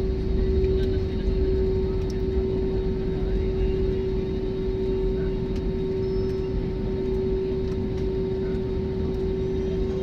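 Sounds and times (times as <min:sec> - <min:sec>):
constant droning hum: 0:00.0 - 0:10.0
engine and airflow rumble: 0:00.0 - 0:10.0.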